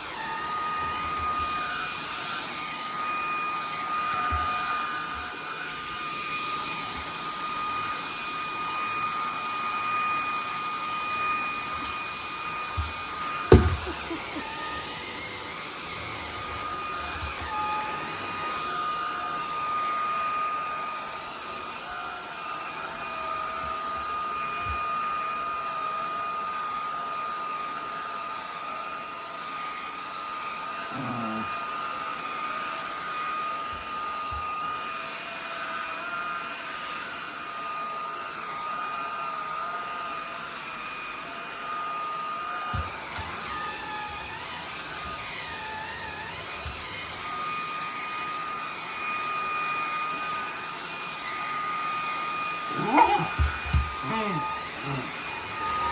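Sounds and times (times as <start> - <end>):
vacuum cleaner whining: 0.0 - 55.9.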